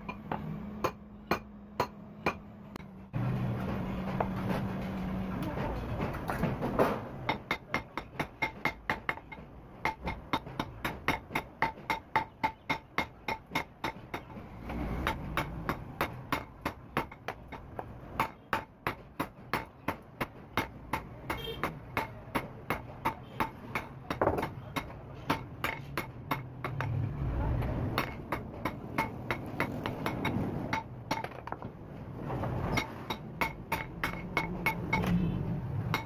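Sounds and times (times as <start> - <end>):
hammer striking hot steel on anvil: 0.0 - 3.0, 6.8 - 27.0, 27.6 - 31.4, 32.6 - 35.1.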